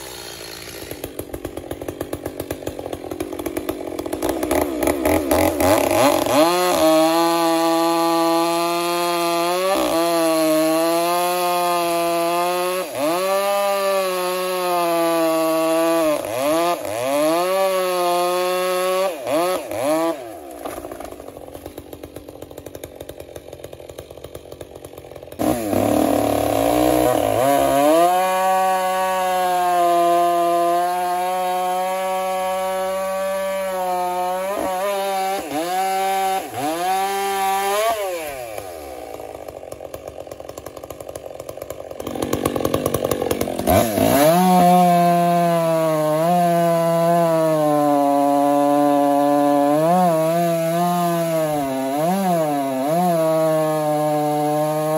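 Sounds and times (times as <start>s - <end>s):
chainsaw cutting log: 0.0s - 54.9s
chainsaw idling and revving: 0.0s - 54.9s.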